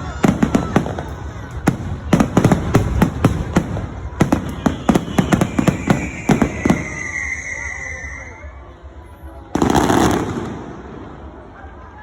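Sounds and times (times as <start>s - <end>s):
fireworks bangs: 0.0s - 8.3s, 9.5s - 11.6s.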